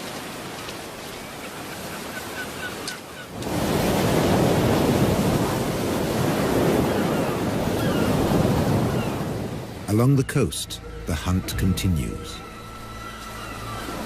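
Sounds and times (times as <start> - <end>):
ocean surf: 0.0 - 14.0.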